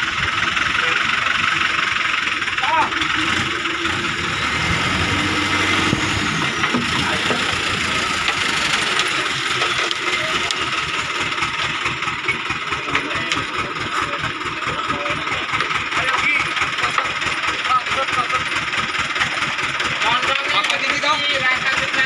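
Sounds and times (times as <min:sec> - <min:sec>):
diesel truck engine passing: 0:00.0 - 0:22.0.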